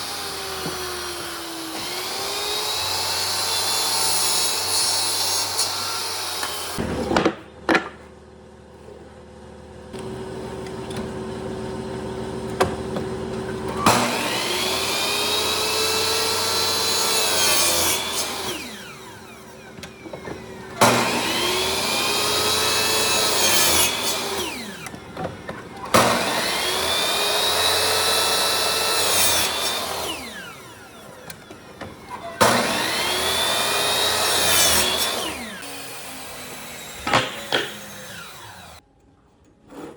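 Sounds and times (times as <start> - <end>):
power tool cutting wood: 0.0 - 7.1, 10.0 - 38.8.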